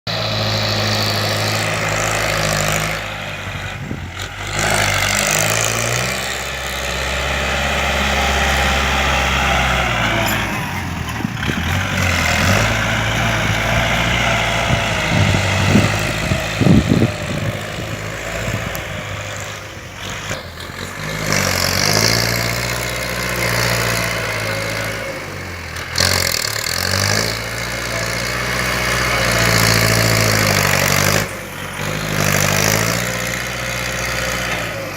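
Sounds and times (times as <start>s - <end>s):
tractor diesel engine: 0.0s - 34.9s.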